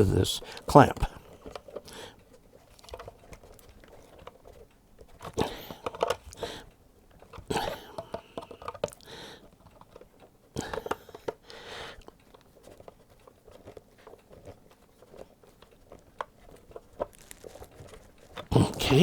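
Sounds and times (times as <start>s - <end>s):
small clicks and ticks: 0.4s - 18.9s.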